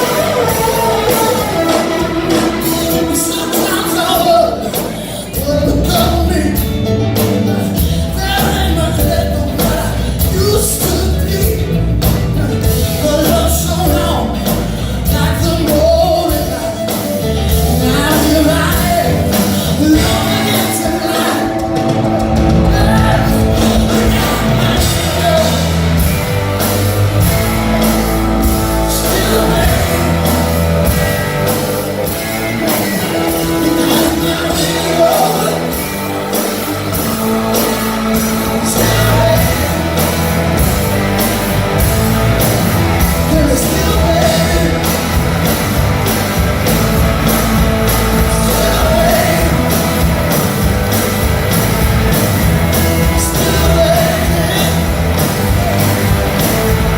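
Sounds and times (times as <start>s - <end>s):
blues-rock band playing: 0.0s - 56.9s
person singing: 0.0s - 56.9s
steady drum beat: 0.0s - 56.9s.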